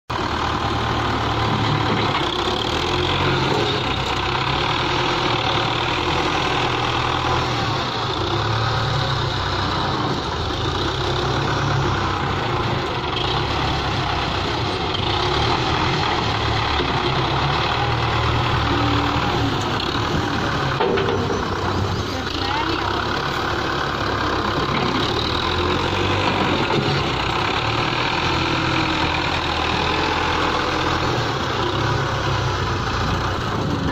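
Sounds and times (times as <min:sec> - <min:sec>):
front loader scooping: 0:00.1 - 0:33.9
tractor diesel engine running: 0:00.1 - 0:33.9.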